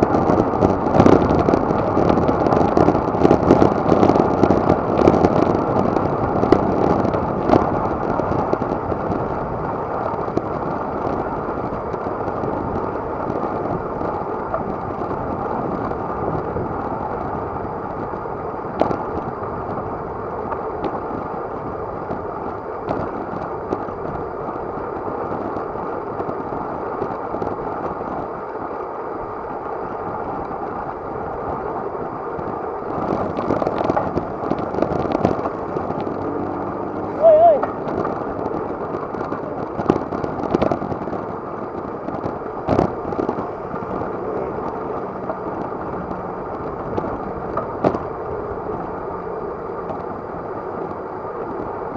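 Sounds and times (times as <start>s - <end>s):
road noise: 0.0s - 51.9s
wind rush: 0.0s - 51.9s.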